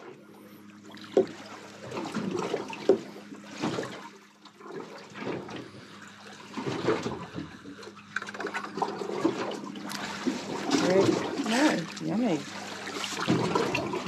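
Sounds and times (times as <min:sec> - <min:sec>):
steady low hum: 0:00.0 - 0:14.0
water lapping against boat hull: 0:00.0 - 0:14.0.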